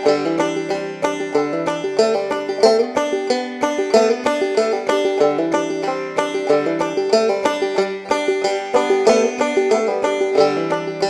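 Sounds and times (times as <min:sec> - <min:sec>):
string instrument picking quick notes: 0:00.0 - 0:11.0.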